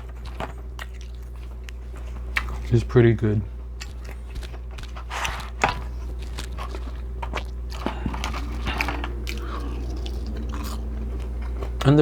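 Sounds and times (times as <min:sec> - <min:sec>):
person chewing crunchy food: 0:00.0 - 0:12.0
steady low hum: 0:00.0 - 0:12.0.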